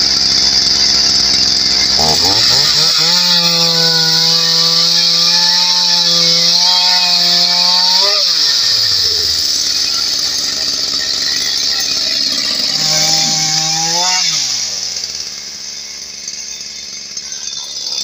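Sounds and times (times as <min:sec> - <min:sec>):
chainsaw cutting log: 0:00.0 - 0:18.0.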